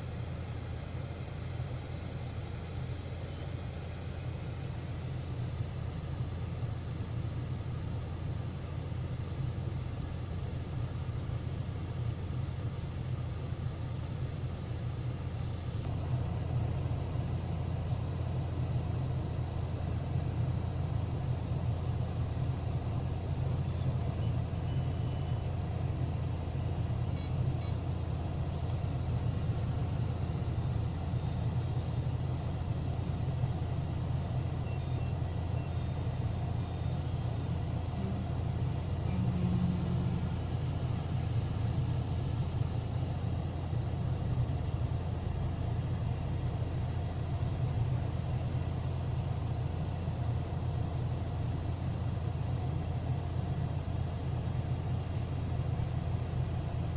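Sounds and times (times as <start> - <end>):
truck diesel engine running: 0.0 - 56.9.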